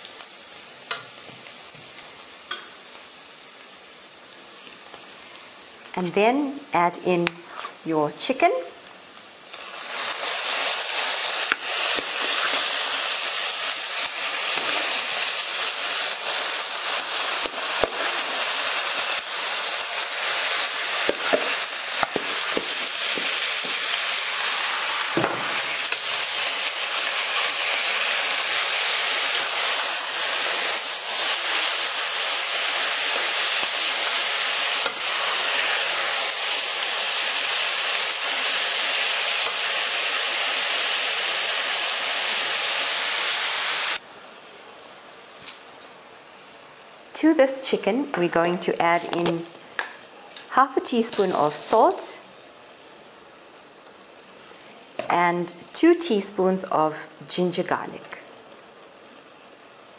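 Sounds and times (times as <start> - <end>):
chicken sizzling in hot oil: 0.0 - 5.9, 7.5 - 44.0, 50.8 - 57.4, 58.3 - 59.9.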